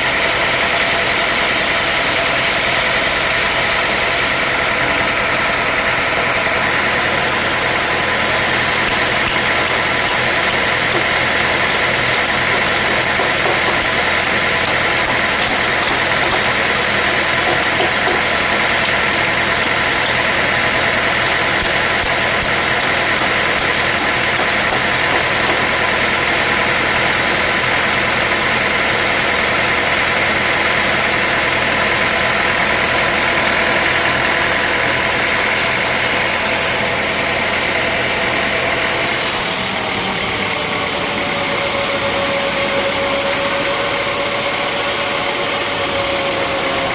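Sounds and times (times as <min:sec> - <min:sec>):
sawmill machinery drone: 0:00.0 - 0:46.9.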